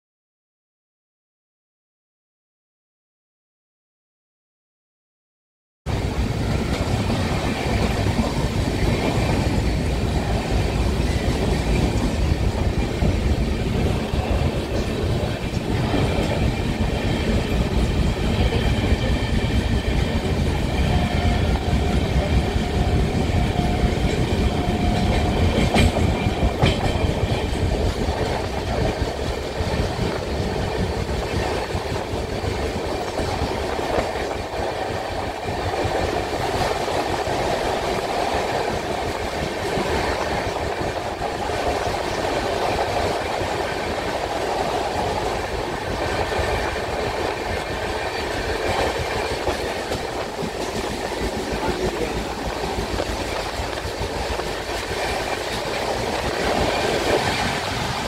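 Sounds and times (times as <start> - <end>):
train wheels clickety-clack: 5.9 - 58.0.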